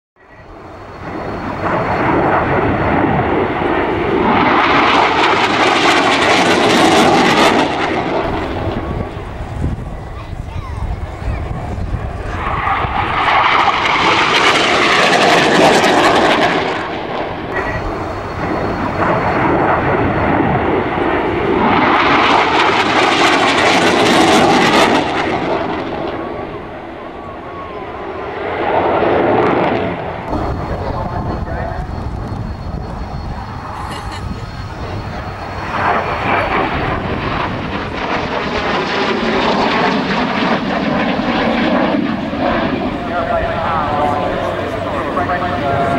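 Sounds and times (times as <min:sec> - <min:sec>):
jet engines roaring: 0:00.2 - 0:45.9.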